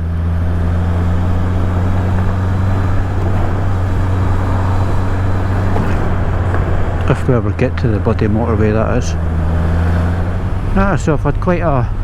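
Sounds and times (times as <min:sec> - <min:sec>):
motorcycle engine running steadily: 0:00.0 - 0:11.8
road and wind noise: 0:00.0 - 0:12.0.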